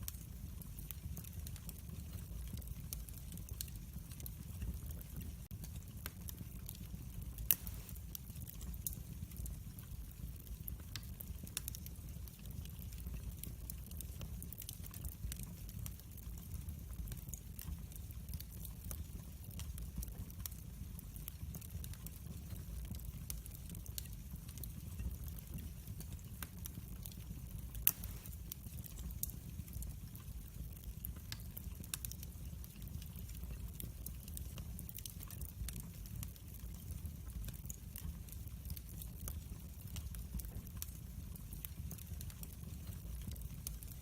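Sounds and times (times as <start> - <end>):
wood fire burning: 0.0 - 44.0.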